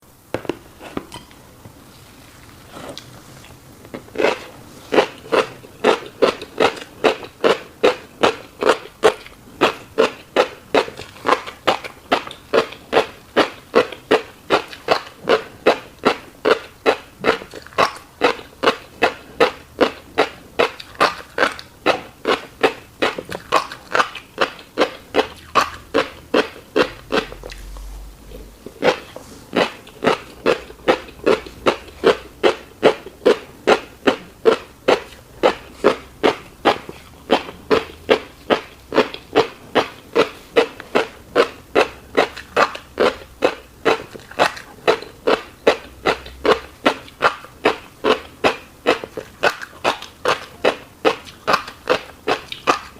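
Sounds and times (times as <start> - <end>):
person chewing wetly: 2.7 - 52.9
mouth clicks: 4.2 - 52.9.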